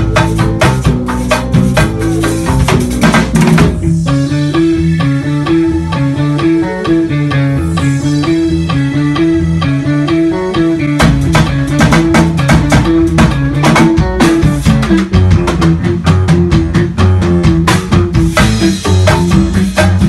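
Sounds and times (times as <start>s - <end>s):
drums and percussion: 0.0s - 20.0s
electric bass groove: 0.0s - 20.0s
keyboard groove: 0.0s - 20.0s.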